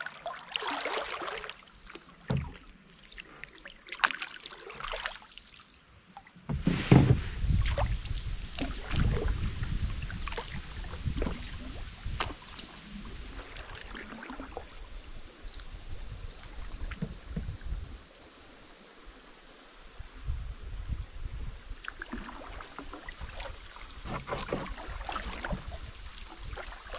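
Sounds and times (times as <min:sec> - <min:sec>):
paddle strokes in water: 0:00.0 - 0:18.4, 0:21.7 - 0:26.9
water splashing along hull: 0:00.0 - 0:19.8, 0:21.6 - 0:26.9.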